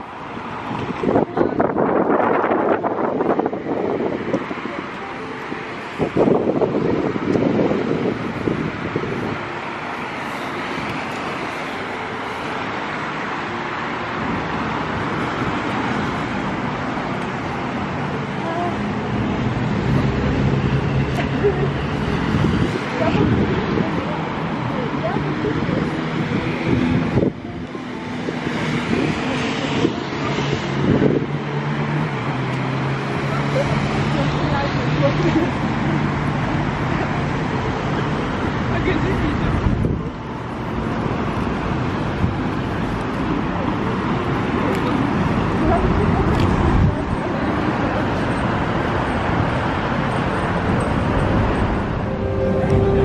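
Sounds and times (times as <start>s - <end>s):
cars driving by: 0.0s - 53.0s
city road traffic: 0.0s - 53.0s.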